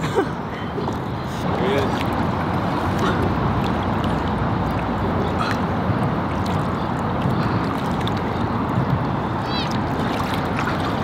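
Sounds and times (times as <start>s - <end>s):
steady rushing water: 0.0s - 11.0s
water sloshing around hands and legs: 0.7s - 11.0s.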